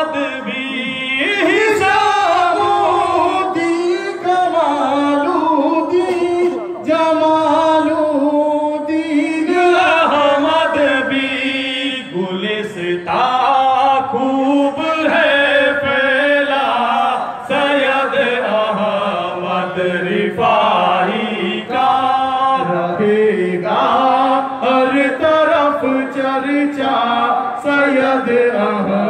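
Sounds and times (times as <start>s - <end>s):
voices chanting devotional song: 0.0s - 29.0s.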